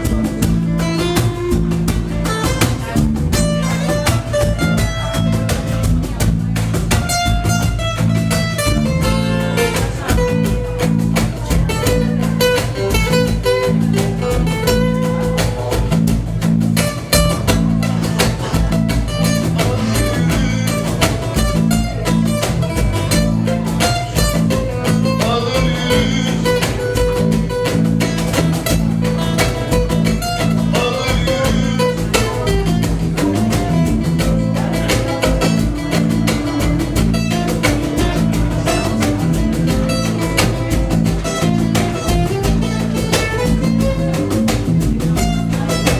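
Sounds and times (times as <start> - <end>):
acoustic guitar band instrumental: 0.0 - 45.9.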